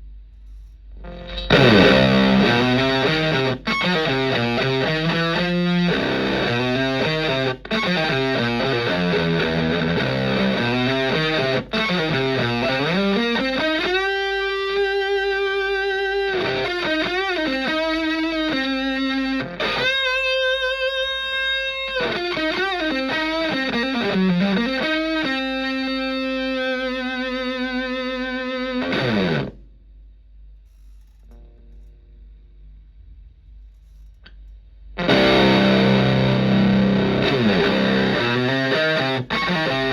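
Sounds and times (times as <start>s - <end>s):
faint amp hum: 0.0s - 39.9s
fuzz electric guitar notes: 1.0s - 29.6s, 35.0s - 39.9s.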